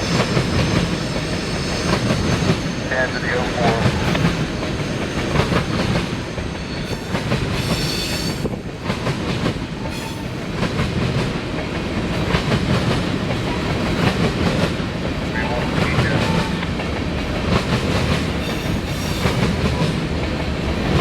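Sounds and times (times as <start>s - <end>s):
train wheels clattering over rails: 0.0s - 2.8s, 3.6s - 21.0s.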